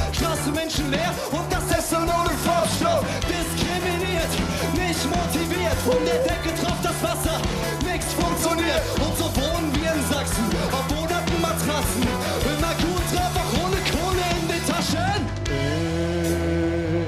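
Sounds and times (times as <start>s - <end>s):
bass: 0.0s - 17.0s
drum kit beat with cymbals: 0.0s - 17.0s
electric guitar: 0.0s - 17.0s
man singing lead vocal: 0.0s - 17.0s.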